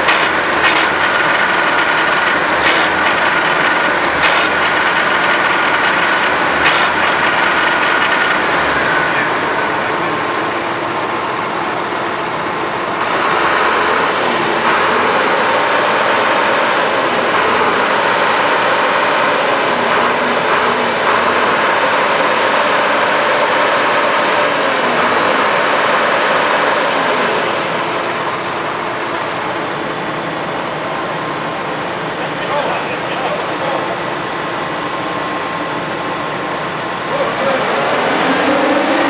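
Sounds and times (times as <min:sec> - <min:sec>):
heavy machinery engine running: 0:00.0 - 0:39.0.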